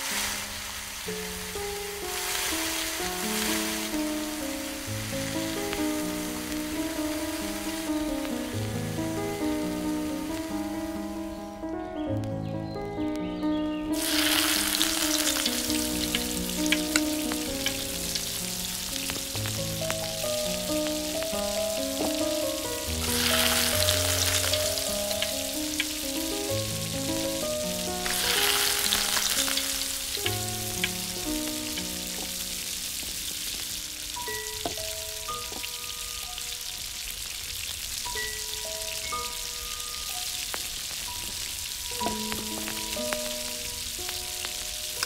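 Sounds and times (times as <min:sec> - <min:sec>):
hot oil sizzling in wok: 0:00.0 - 0:11.7, 0:13.9 - 0:45.0
soft background melody: 0:00.0 - 0:45.0.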